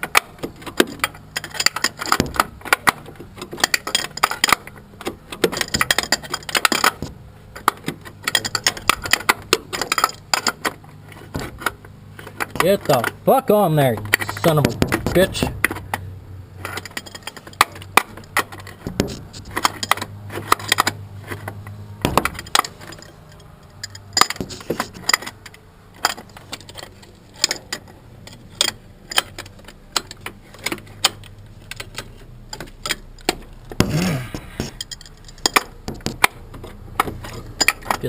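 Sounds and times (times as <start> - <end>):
hand tools clinking on metal: 0.0 - 38.0
low hum: 0.0 - 38.0.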